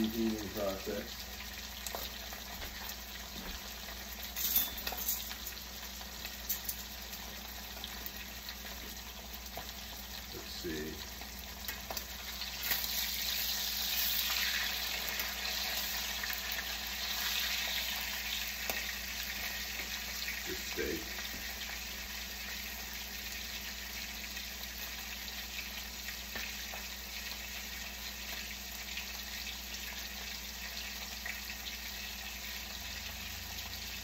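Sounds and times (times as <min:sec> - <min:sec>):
steaks sizzling in a pan: 0:00.0 - 0:34.0.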